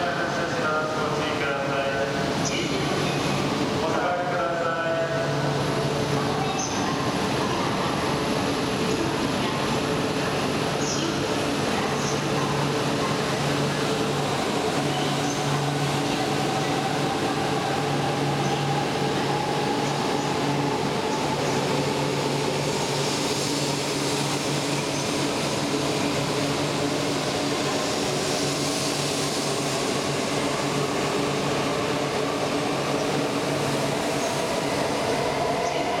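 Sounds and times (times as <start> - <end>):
train running noise: 0.0 - 36.0.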